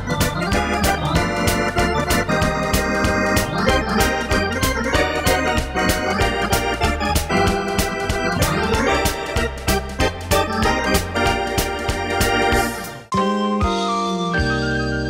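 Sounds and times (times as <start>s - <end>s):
electronic organ playing: 0.0s - 15.0s.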